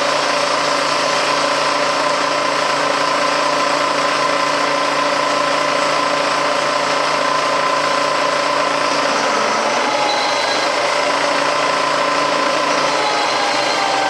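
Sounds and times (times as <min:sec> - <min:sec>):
metal-cutting machine whine: 0:00.0 - 0:14.0.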